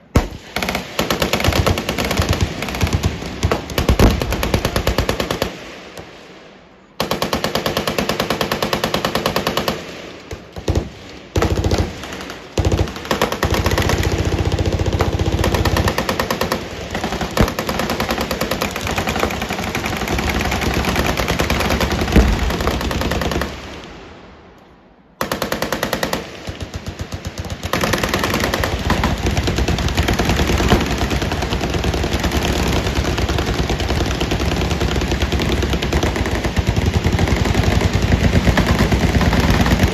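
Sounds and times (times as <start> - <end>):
machine gun automatic fire: 0.0 - 5.6, 7.0 - 23.8, 25.2 - 39.9.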